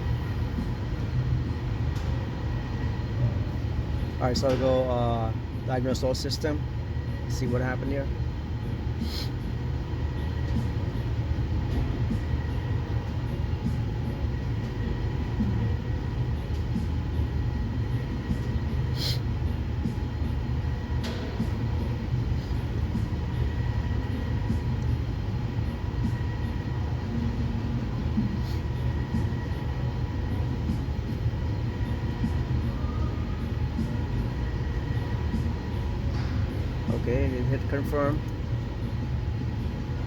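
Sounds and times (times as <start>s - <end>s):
low machinery rumble: 0.0s - 40.0s.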